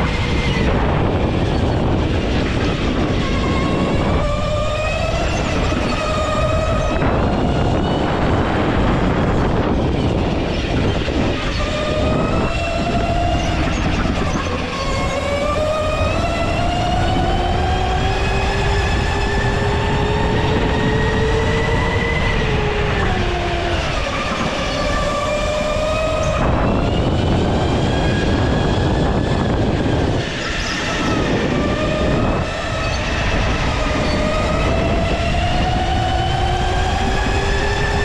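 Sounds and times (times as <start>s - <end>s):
go-kart engine whine and rumble: 0.0s - 38.0s.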